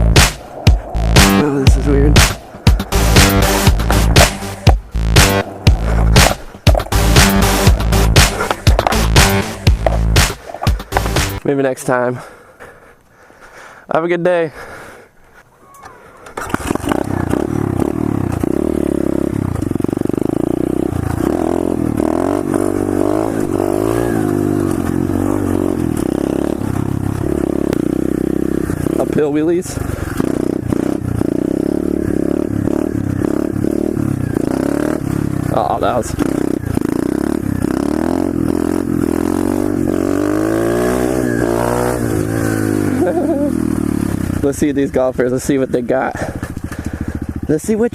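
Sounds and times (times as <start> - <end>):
pit bike engine revving: 0.0 - 11.4, 16.4 - 47.9.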